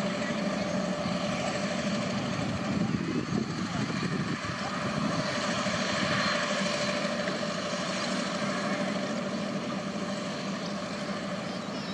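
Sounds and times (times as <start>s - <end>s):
jet engines rushing and whining: 0.0s - 11.9s.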